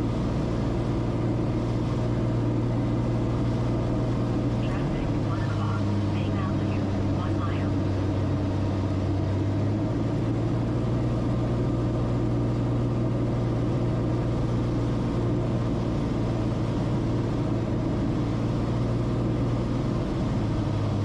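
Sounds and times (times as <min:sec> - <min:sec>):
aircraft piston engine droning: 0:00.0 - 0:21.0.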